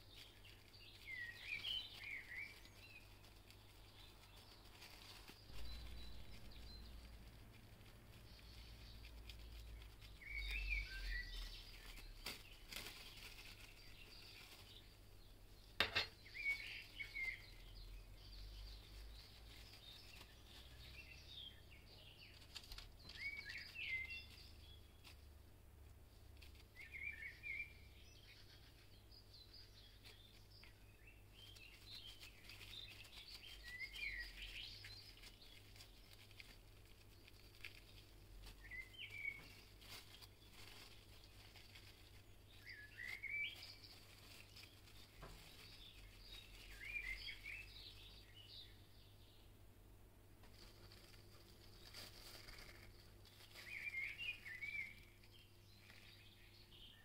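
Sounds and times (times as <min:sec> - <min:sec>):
faint bird chirps: 0:00.0 - 0:15.0, 0:15.6 - 0:25.2, 0:26.7 - 0:49.6, 0:50.6 - 0:57.0
low background hum: 0:00.0 - 0:57.0.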